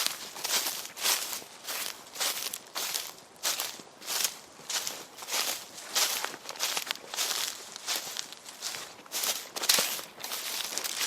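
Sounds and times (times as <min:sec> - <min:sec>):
footsteps scuffing: 0:00.0 - 0:11.0.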